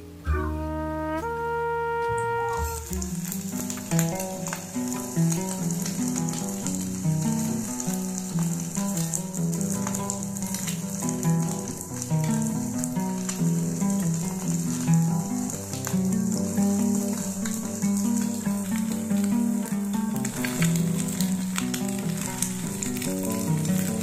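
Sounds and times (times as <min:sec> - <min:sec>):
soft music with plucked melody: 0:00.0 - 0:24.0
food sizzling in frying pan: 0:02.4 - 0:24.0.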